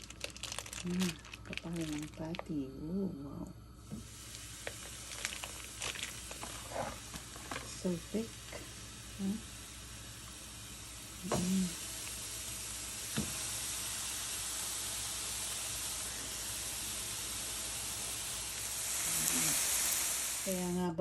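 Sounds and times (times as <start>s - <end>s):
burger patty sizzling in a pan: 0.0s - 2.5s, 3.6s - 21.0s.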